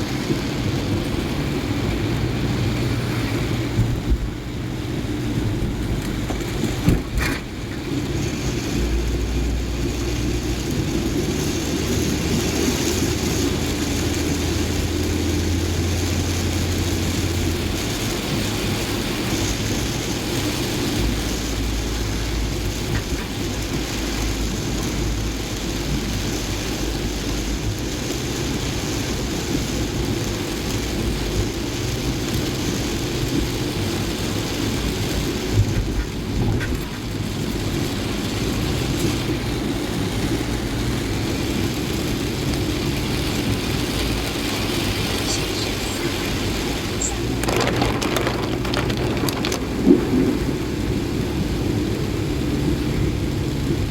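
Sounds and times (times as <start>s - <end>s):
car engine and road rumble: 0.0s - 53.9s
rain hissing: 7.4s - 53.9s.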